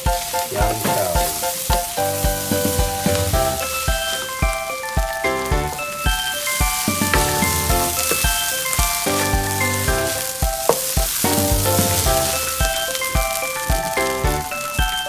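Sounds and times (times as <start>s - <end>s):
background music with beat: 0.0s - 15.0s
rice sizzling in a wok: 0.0s - 15.0s.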